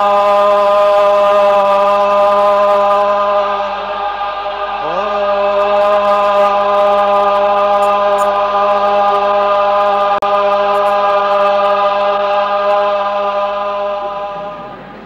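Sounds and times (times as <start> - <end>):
crowd chanting one held note: 0.0 - 15.0.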